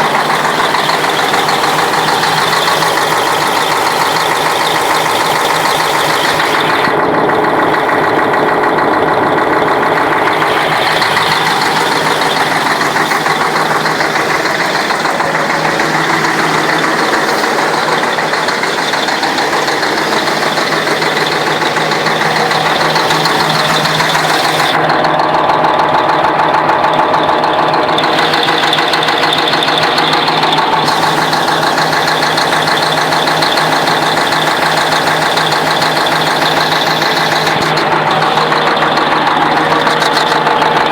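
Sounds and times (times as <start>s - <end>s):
diesel truck engine idling: 0.0s - 40.9s
engine knocking: 0.0s - 40.9s.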